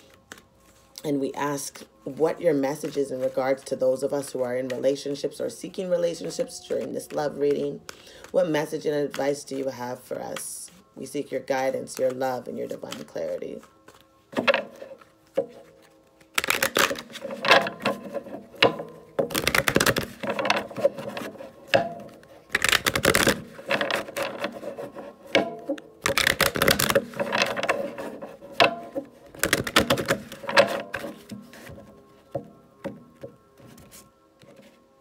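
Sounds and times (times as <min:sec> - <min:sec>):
cards being shuffled by hand: 0:00.0 - 0:01.1, 0:02.1 - 0:34.9.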